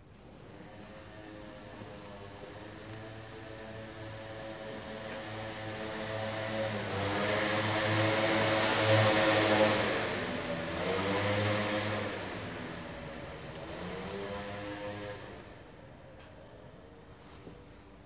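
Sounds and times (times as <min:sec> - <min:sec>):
vehicle passing by: 0:00.7 - 0:15.7.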